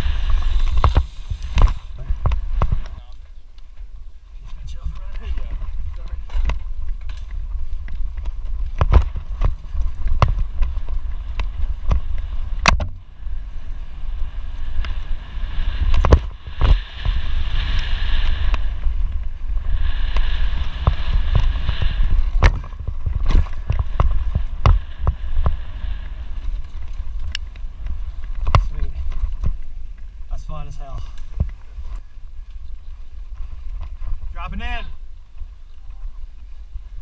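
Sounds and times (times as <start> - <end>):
bike knocking and rattling: 0.0 - 34.4
wind rumbling on microphone: 0.0 - 37.0.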